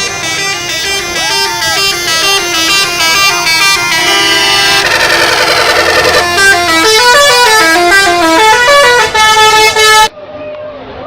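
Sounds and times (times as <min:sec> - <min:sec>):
musical bus horn playing a tune: 0:00.0 - 0:10.1.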